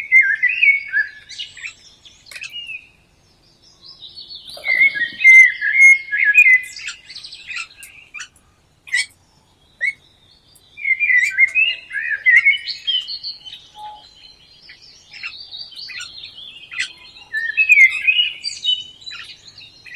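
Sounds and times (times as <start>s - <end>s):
songbirds singing: 0.0s - 19.9s.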